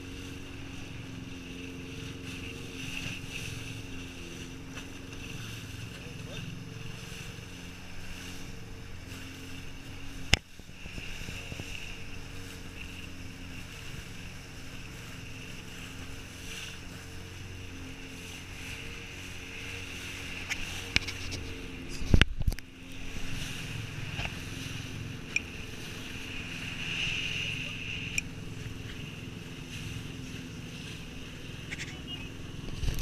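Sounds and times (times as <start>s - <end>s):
jet ski engine running: 0.0s - 33.0s
wind and water noise: 0.0s - 33.0s.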